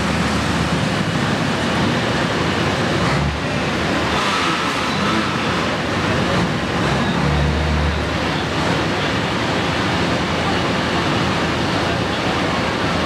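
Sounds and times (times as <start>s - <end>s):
tractor engine roaring under load: 0.0s - 13.0s.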